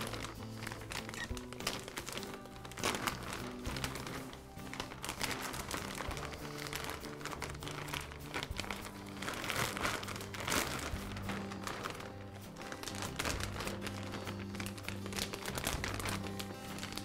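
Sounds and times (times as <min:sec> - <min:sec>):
background music: 0:00.0 - 0:17.0
plastic bag crinkling: 0:00.0 - 0:17.0.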